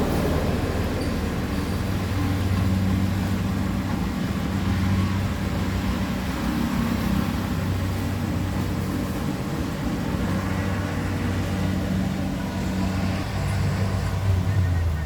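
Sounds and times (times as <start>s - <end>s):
harvester engine running: 0.0s - 15.0s.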